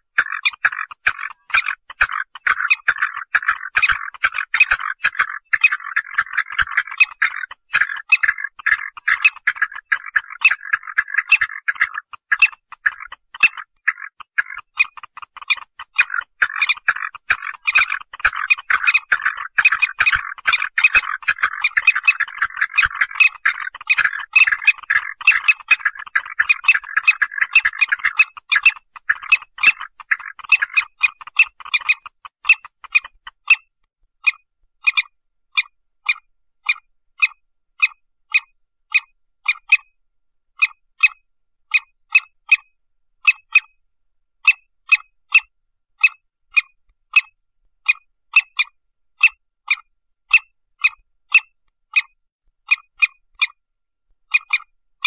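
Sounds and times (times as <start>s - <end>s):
short clicking animal calls: 0.0s - 40.0s, 40.6s - 43.8s, 44.4s - 53.6s, 54.3s - 54.8s.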